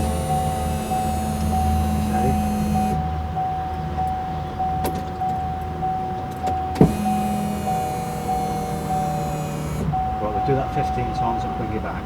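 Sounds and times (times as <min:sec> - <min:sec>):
ignition switch click: 0:00.0 - 0:10.6
electric fuel pump whirring: 0:00.0 - 0:11.8.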